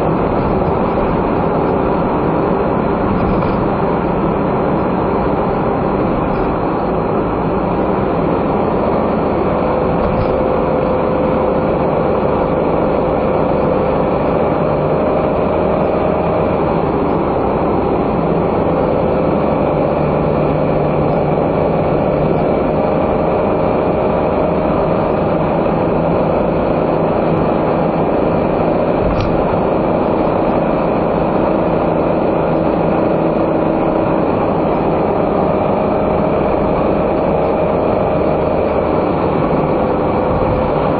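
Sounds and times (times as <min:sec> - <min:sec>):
car engine drone: 0:00.0 - 0:40.9.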